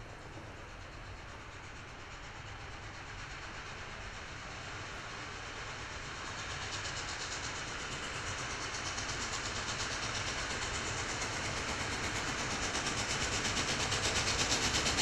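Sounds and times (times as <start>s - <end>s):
steam exhaust beats: 0.0s - 15.0s.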